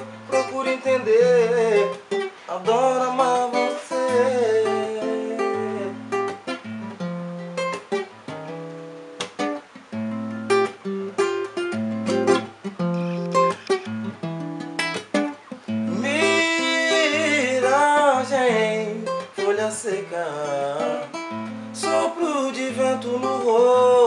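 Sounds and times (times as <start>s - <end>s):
acoustic guitar: 0.0s - 24.0s.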